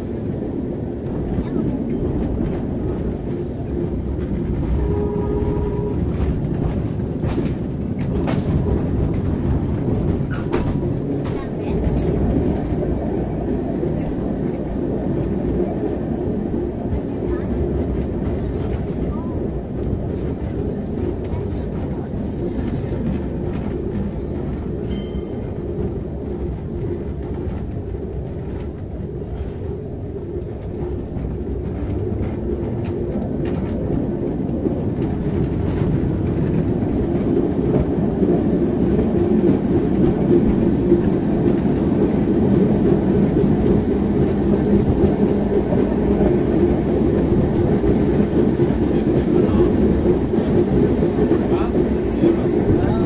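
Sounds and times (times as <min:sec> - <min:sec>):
rail clatter: 0:00.0 - 0:53.0
tram rumbling on rails: 0:00.0 - 0:53.0.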